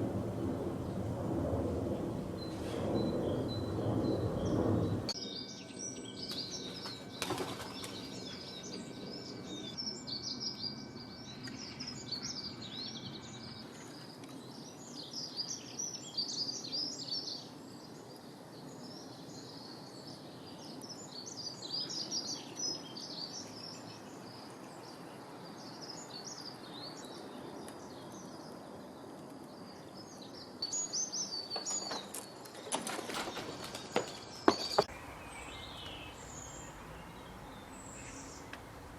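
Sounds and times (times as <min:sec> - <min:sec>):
outdoor background noise: 0:00.0 - 0:38.9
small birds chirping: 0:02.4 - 0:38.9.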